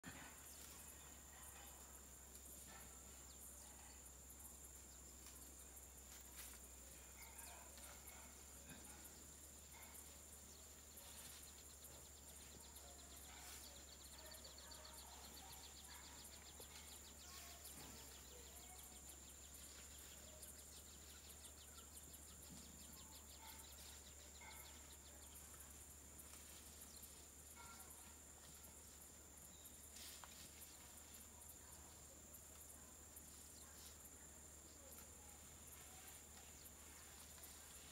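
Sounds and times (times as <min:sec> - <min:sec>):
faint bird chirps: 0:00.1 - 0:37.9
rapid insect trill: 0:00.1 - 0:37.9.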